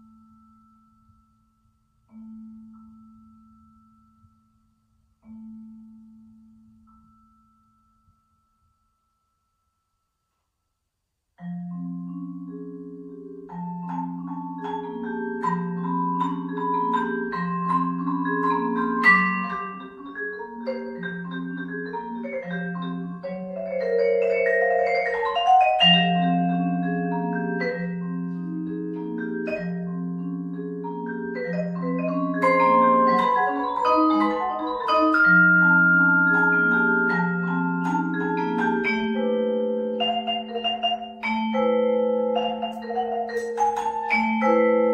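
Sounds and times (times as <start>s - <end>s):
solo vibraphone: 0.0s - 10.3s, 11.4s - 44.9s.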